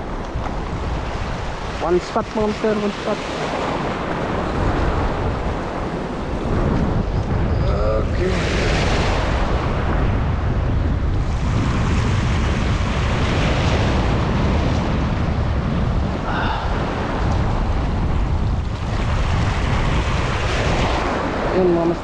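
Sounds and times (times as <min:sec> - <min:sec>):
sea waves washing over rocks: 0:00.0 - 0:07.0, 0:08.1 - 0:22.0
wind rumble on microphone: 0:00.0 - 0:22.0.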